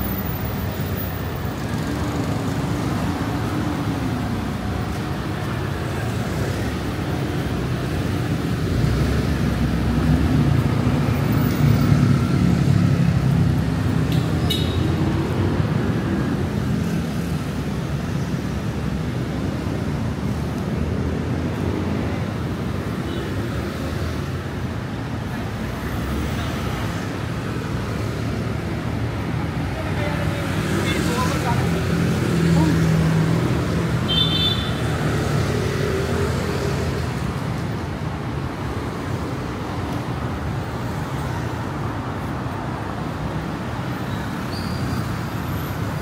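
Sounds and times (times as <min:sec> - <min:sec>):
city road traffic rumble: 0:00.0 - 0:46.0.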